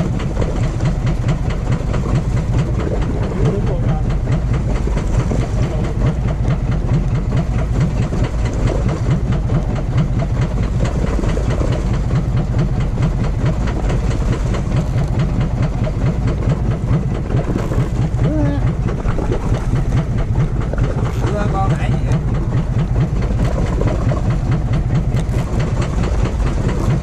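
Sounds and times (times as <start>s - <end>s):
boat engine rumbling: 0.0s - 27.0s.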